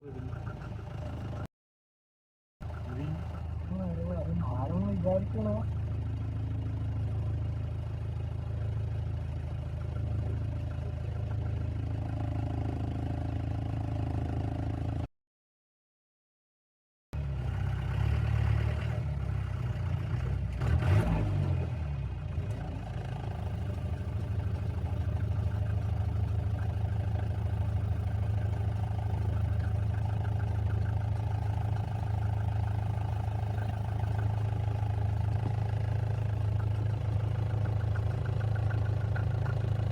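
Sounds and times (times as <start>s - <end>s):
off-road vehicle engine running: 0.0s - 1.5s, 2.6s - 15.1s, 17.2s - 39.9s.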